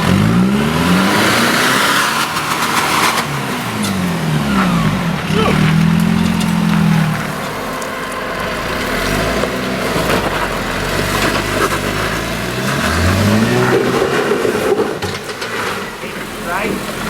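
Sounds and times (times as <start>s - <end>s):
vehicle engine revving under load: 0.0s - 17.0s.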